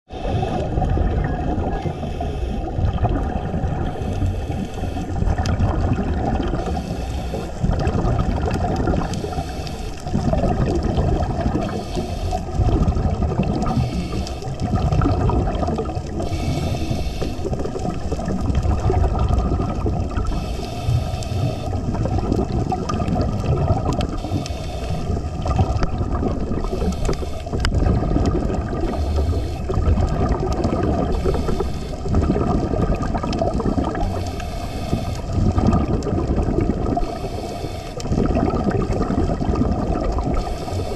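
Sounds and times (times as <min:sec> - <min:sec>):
bubbling hiss: 0:00.1 - 0:40.9
muffled underwater rush: 0:00.1 - 0:40.9.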